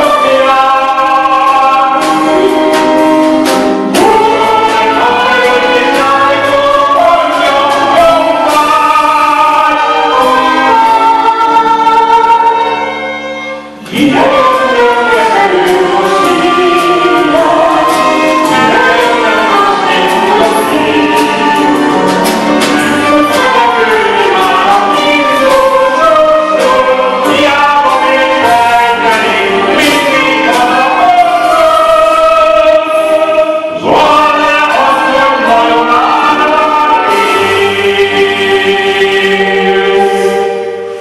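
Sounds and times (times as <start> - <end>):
man singing into a microphone: 0.0 - 3.2, 3.9 - 13.2, 13.8 - 40.6.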